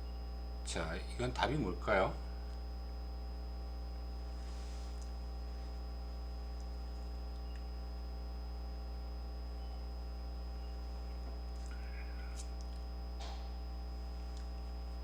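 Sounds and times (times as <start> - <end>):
electrical mains hum: 0.0 - 15.0
faint high whine: 0.0 - 15.0.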